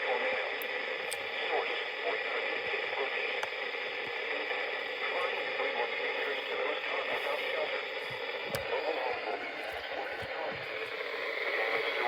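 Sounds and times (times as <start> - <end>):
faint indistinct voice: 0.0 - 12.0
radio static hiss: 0.0 - 12.0.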